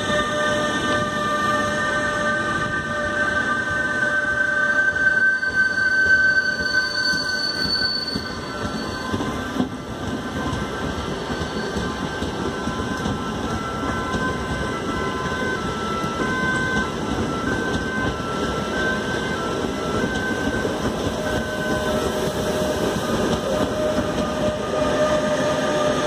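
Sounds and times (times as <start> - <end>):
train wheels rumbling on rails: 0.0 - 26.0
thin whistling tones: 0.4 - 26.0.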